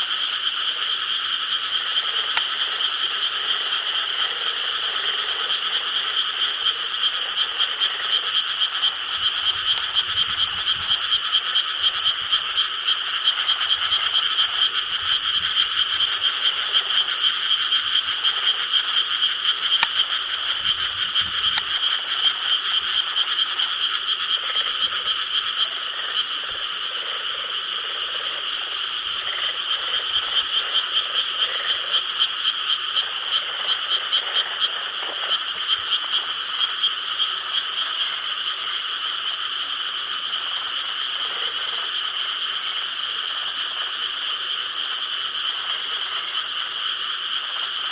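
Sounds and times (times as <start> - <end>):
chorus of frogs croaking: 0.0 - 47.9.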